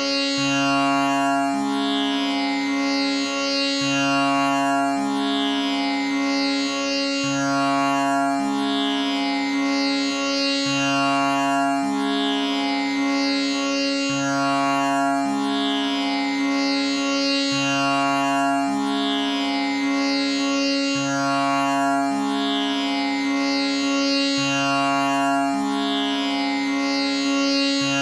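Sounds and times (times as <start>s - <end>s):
tanpura drone: 0.0s - 28.0s.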